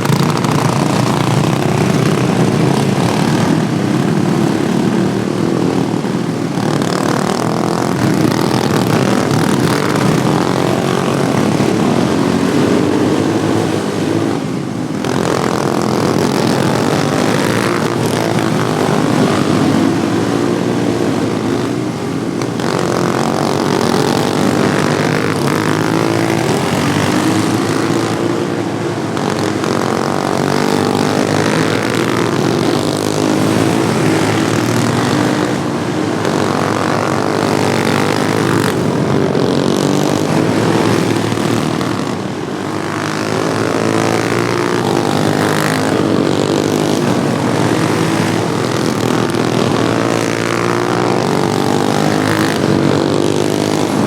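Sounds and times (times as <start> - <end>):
racing lawn mower engines: 0.0 - 54.0.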